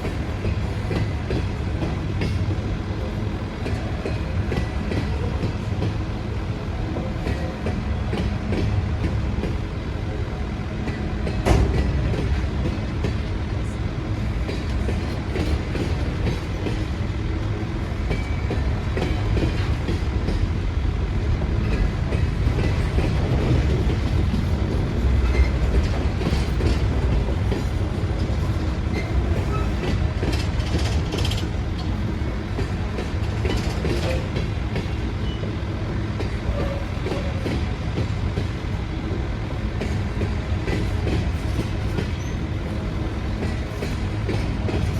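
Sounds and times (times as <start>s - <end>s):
train rumbling by: 0.0s - 44.9s.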